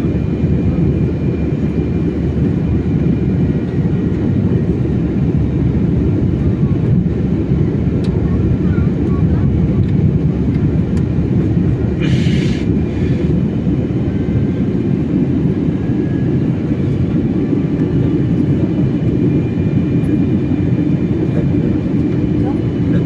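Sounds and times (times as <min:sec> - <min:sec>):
airliner engines rumbling in cabin: 0:00.0 - 0:23.0.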